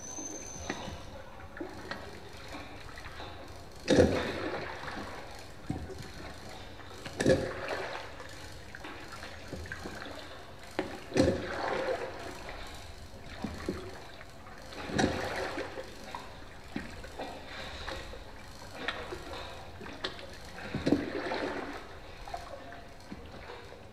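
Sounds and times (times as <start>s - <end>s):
water lapping around boat: 0.0s - 23.9s
oar strokes: 0.7s - 23.7s.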